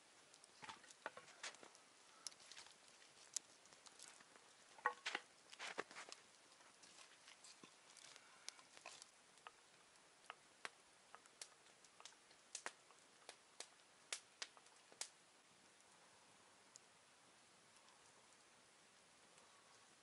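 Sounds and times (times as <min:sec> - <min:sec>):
campfire crackling and popping: 0:00.0 - 0:16.0, 0:16.6 - 0:20.0.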